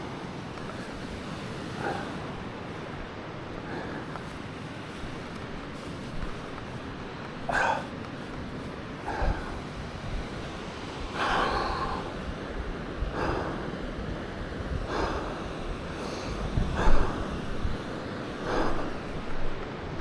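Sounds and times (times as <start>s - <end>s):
wind noise: 0.0s - 20.0s
person breathing hard: 0.6s - 20.0s.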